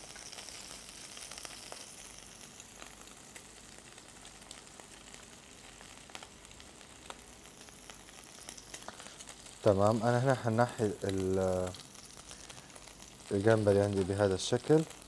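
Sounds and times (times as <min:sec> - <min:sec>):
shrimp sizzling in a frying pan: 0:00.0 - 0:15.0.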